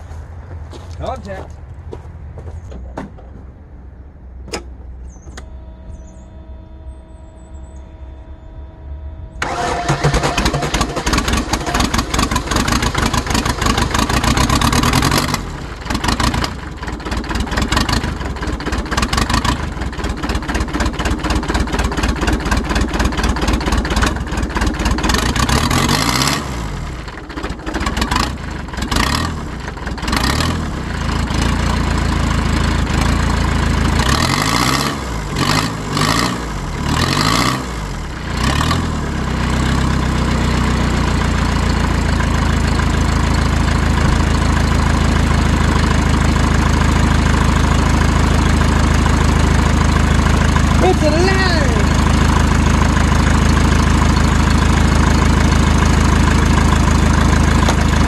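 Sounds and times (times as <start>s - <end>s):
diesel engine clattering: 0.0s - 58.0s.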